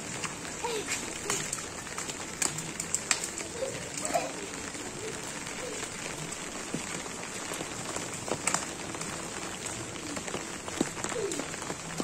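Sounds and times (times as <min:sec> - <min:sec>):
steady rain on pavement: 0:00.0 - 0:12.0
water splashing in puddles: 0:00.0 - 0:12.0.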